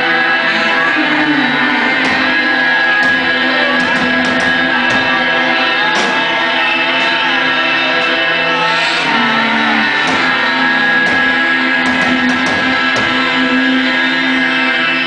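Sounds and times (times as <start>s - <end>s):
electric guitar: 0.0s - 15.0s
person singing: 0.0s - 15.0s.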